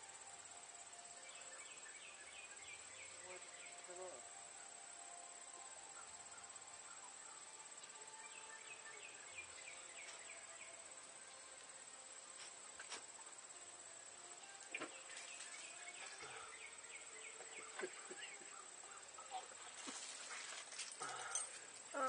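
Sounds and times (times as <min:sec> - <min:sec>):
insects buzzing high-pitched: 0:00.0 - 0:22.0.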